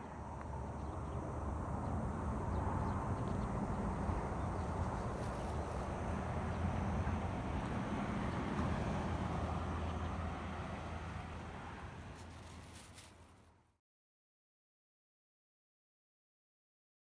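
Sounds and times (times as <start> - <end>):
vehicle low rumble: 0.0 - 13.8.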